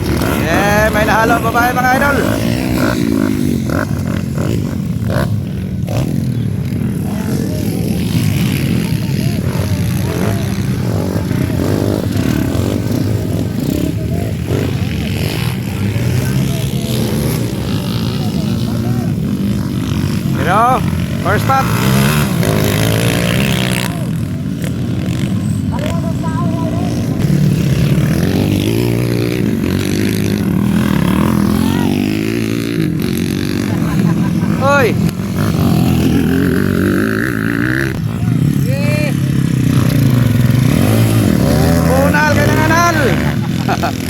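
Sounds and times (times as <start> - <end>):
dirt bikes racing: 0.0 - 44.0.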